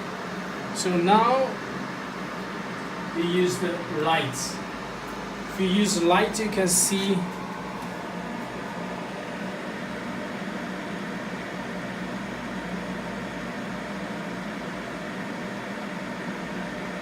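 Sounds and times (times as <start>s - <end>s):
fan and motor hum: 0.0s - 17.0s.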